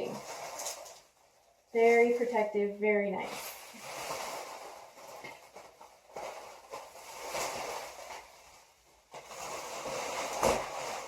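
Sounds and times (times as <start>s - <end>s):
packing material rustling: 0.0s - 11.0s.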